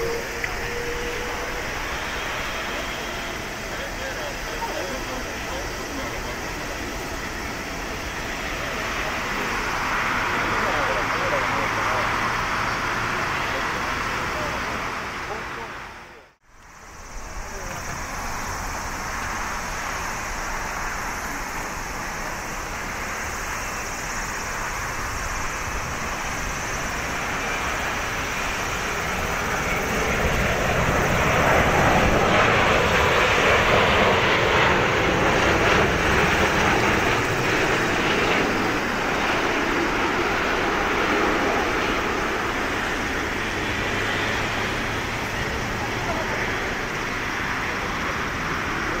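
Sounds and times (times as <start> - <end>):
jet engine rush overhead: 0.0 - 49.0.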